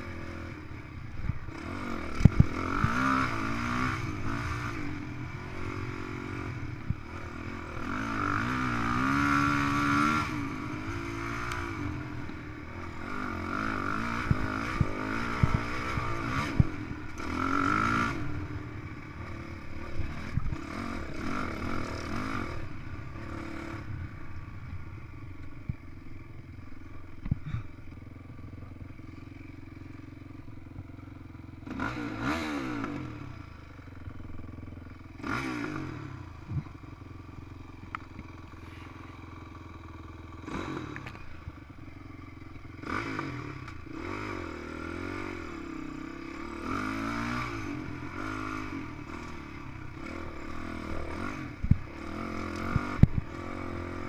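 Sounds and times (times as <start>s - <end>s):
dirt bike engine revving: 0.0s - 36.8s, 37.6s - 54.0s.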